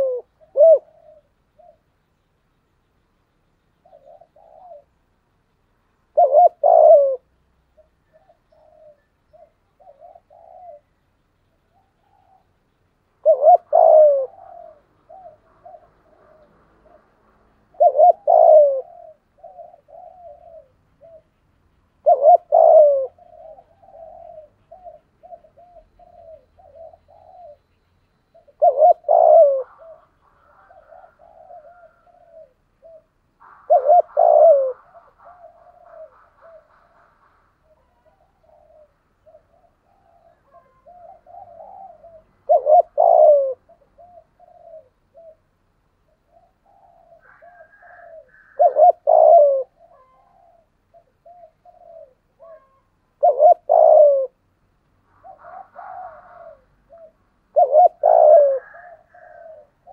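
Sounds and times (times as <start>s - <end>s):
dove cooing: 0.0s - 2.1s, 3.7s - 59.9s.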